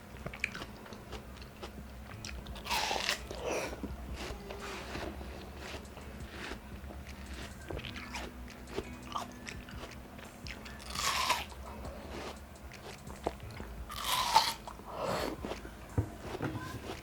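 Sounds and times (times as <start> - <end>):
chewing watermelon: 0.0 - 17.0.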